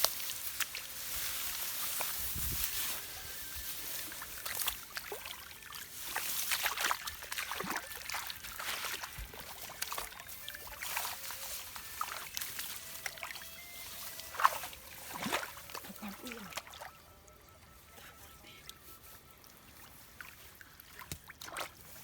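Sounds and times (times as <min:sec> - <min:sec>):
muddy water splashing: 0:00.0 - 0:22.0.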